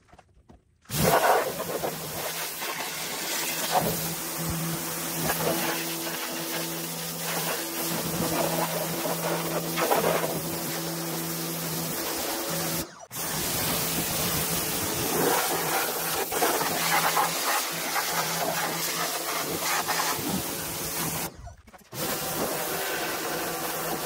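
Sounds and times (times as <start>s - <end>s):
pressure washer spraying water: 0.9s - 24.0s.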